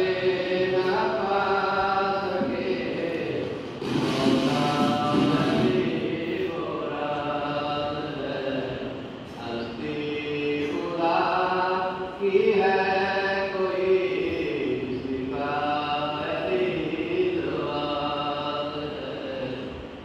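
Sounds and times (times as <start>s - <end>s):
person chanting a lament: 0.0s - 20.0s.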